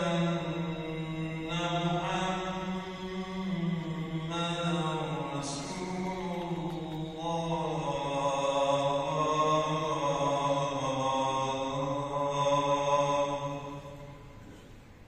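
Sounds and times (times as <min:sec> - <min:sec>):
man chanting over loudspeakers: 0:00.0 - 0:14.4.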